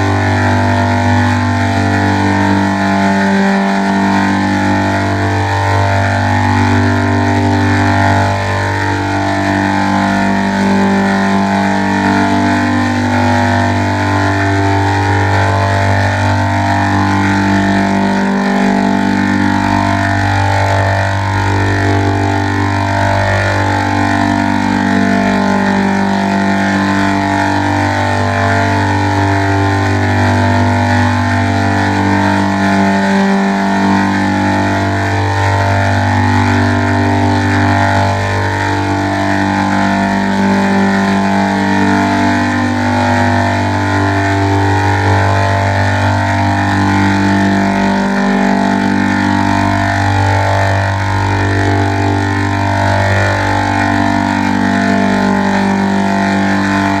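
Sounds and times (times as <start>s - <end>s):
sustained bass note: 0.0s - 57.0s
synth chords: 0.0s - 57.0s.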